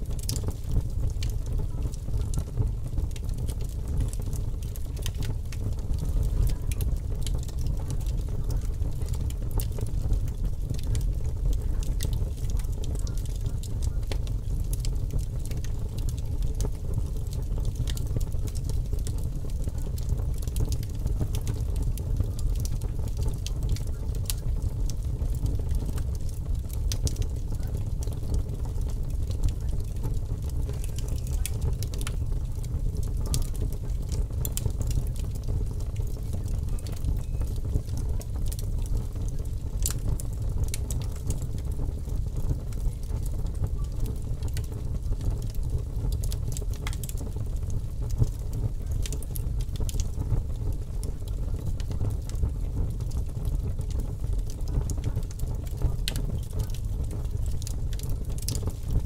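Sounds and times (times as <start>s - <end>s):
fire crackling: 0.0s - 59.0s
low fire rumble: 0.0s - 59.0s.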